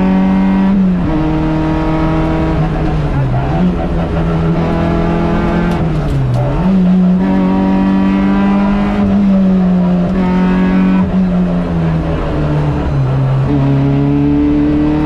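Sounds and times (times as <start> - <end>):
rally car engine: 0.0 - 15.0.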